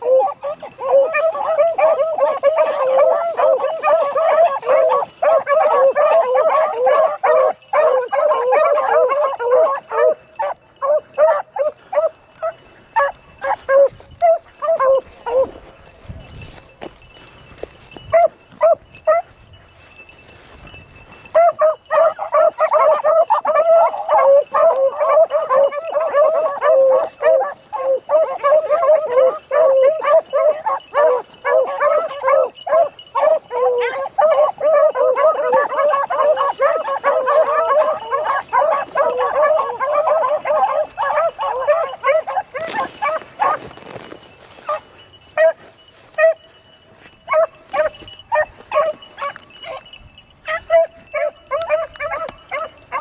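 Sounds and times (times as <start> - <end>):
pack of dogs baying: 0.0 - 53.0.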